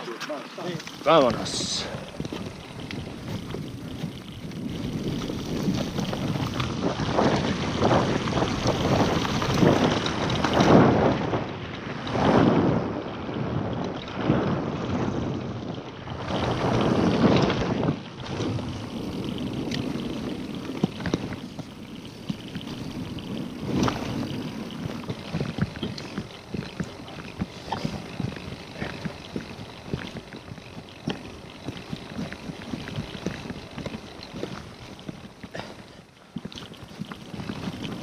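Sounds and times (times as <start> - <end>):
bike clicks and knocks: 0.0 - 12.3, 15.2 - 38.0
tyre and wind noise: 0.0 - 38.0.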